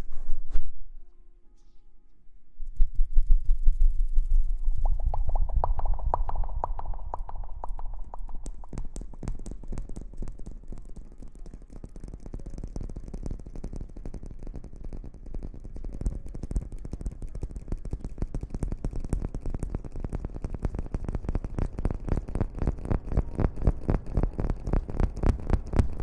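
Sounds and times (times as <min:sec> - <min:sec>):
quick small crackles and clicks: 0:02.7 - 0:26.0.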